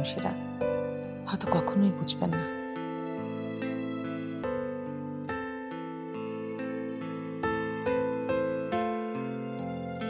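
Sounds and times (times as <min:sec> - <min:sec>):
slow sad keyboard music: 0:00.0 - 0:10.0.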